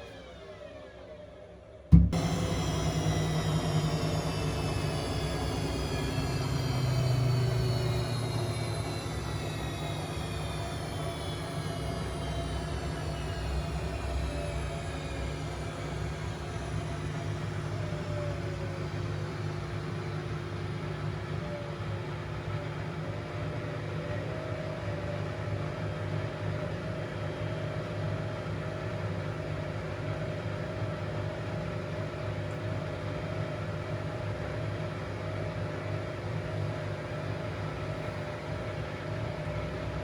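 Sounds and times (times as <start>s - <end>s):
washing machine motor whine: 0.0s - 40.0s.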